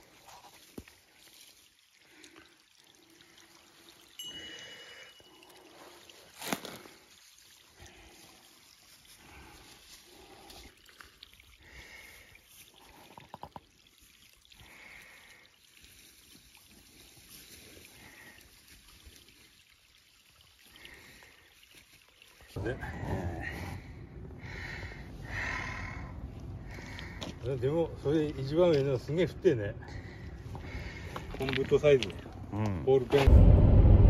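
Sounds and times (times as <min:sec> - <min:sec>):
trickle of running water: 0:00.0 - 0:32.8.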